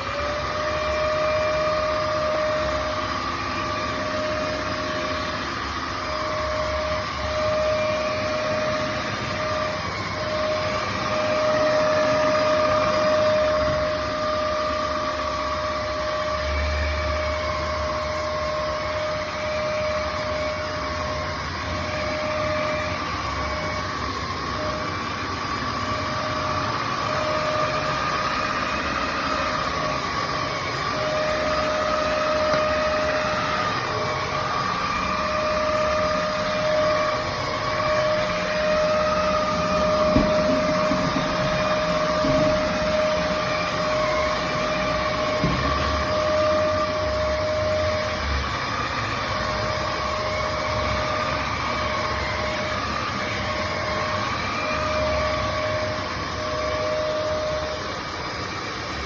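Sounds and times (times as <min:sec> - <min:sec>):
vacuum cleaner motor whining: 0:00.0 - 0:59.0.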